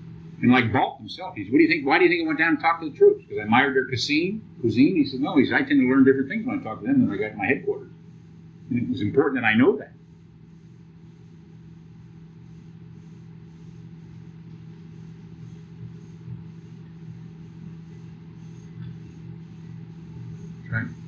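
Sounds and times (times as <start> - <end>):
tape hum and hiss: 0.0 - 21.0.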